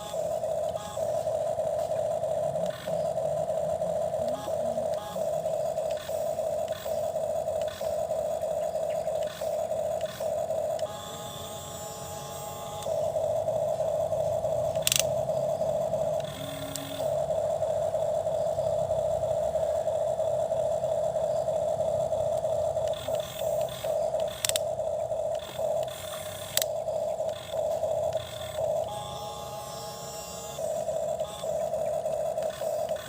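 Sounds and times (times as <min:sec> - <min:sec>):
sharp plastic clicks: 0:00.0 - 0:29.2, 0:30.3 - 0:33.0
toy electric motor whining: 0:00.0 - 0:33.0.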